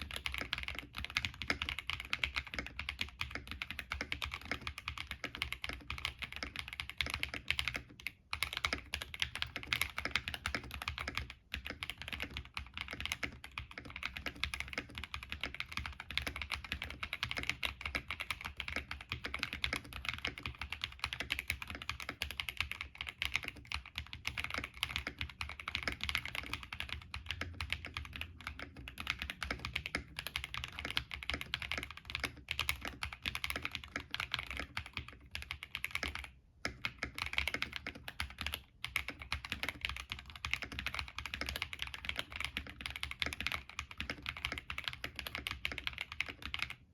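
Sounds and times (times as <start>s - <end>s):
mechanical keyboard typing: 0.0s - 46.9s.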